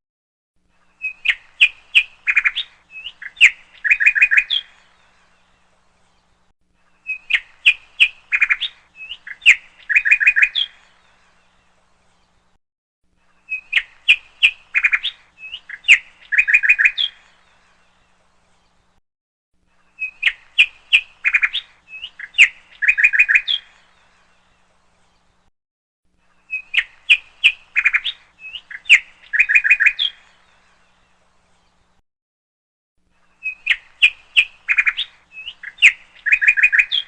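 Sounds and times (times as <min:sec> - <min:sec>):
recorded birdsong chirping and trilling: 0:00.6 - 0:19.0, 0:19.6 - 0:25.5, 0:26.2 - 0:32.0, 0:33.1 - 0:37.0.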